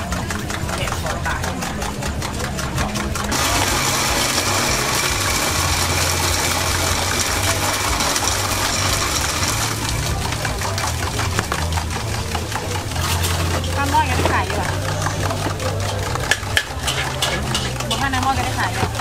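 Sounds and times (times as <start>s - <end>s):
small engine humming: 0.0s - 19.0s.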